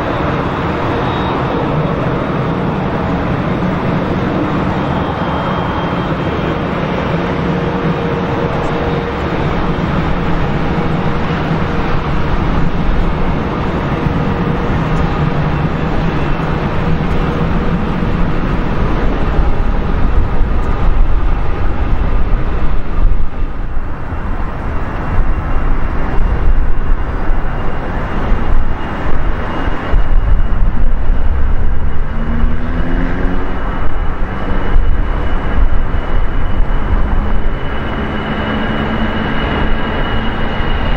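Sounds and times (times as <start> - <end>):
jet engine high whine: 0.0 - 40.9
jet engines rumbling: 0.0 - 40.9.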